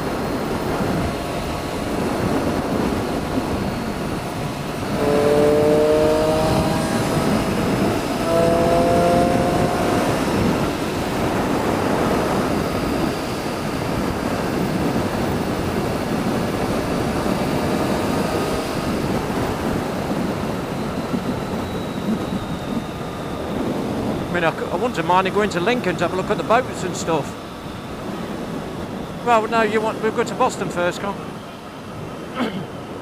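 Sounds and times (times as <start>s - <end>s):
motorcycle engine: 0.0s - 29.9s
wind and road noise: 0.0s - 33.0s.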